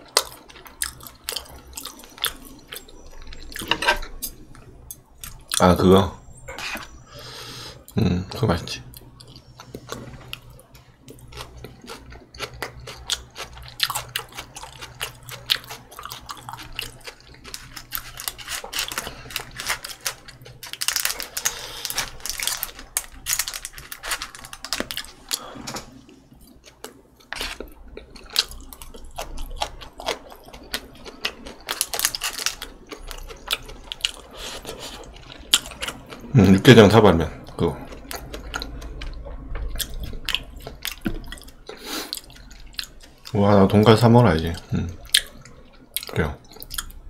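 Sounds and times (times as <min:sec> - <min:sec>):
person chewing food: 0:00.0 - 0:05.6, 0:08.9 - 0:36.4, 0:37.4 - 0:43.4, 0:44.5 - 0:47.0.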